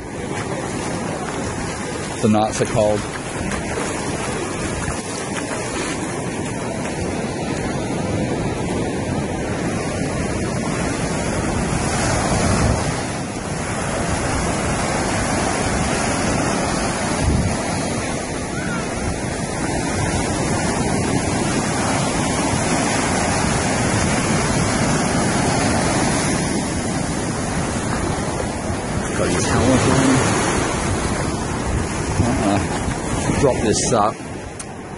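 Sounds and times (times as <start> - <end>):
ocean surf washing onto beach: 0.0 - 34.9
wind buffeting microphone: 0.0 - 34.9.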